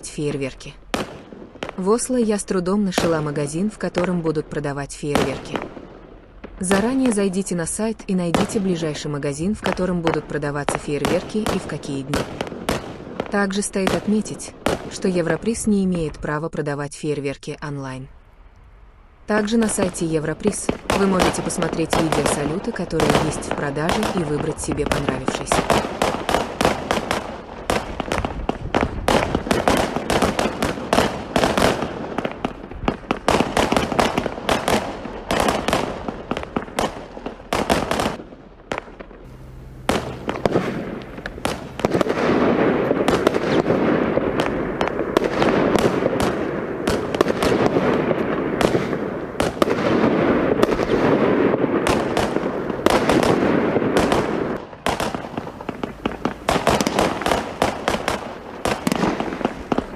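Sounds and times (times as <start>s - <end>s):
fireworks bangs and crackling: 0.0s - 7.4s, 8.2s - 15.2s, 19.8s - 59.9s.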